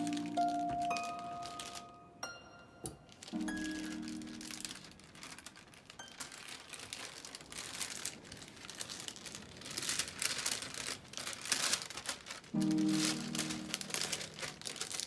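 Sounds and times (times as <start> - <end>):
paper wrapping crinkling: 0.0 - 15.0.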